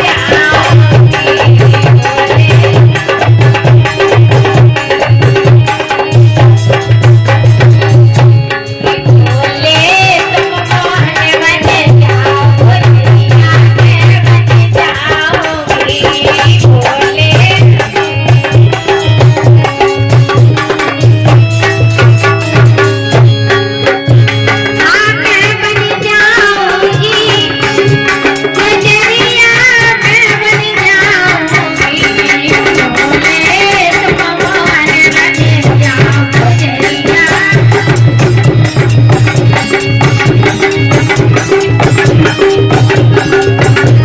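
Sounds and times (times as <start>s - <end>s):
hand drums fast rhythm: 0.0s - 44.0s.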